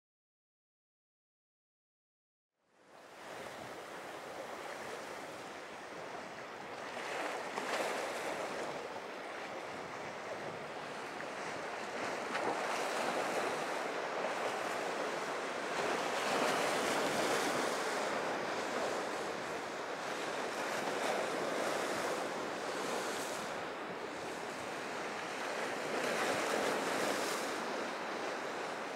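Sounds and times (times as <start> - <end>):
ocean surf: 2.9 - 28.9
wind buffeting microphone: 3.3 - 28.9.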